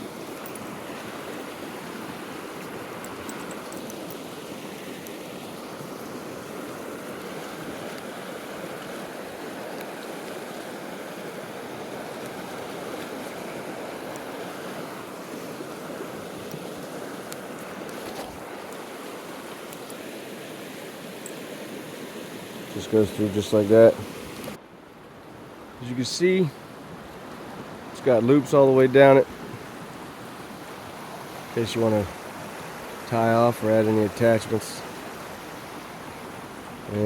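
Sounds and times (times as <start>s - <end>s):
creek water rushing: 0.0s - 37.0s.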